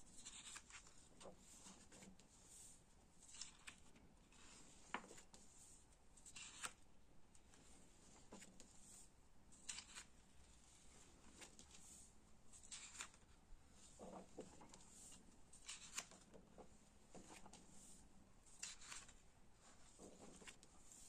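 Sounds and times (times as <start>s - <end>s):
paper pages being turned: 0.1s - 6.8s, 7.5s - 10.2s, 10.8s - 21.0s.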